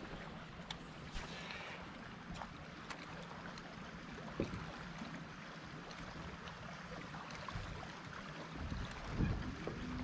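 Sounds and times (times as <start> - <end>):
water lapping against boat hull: 0.0 - 10.0.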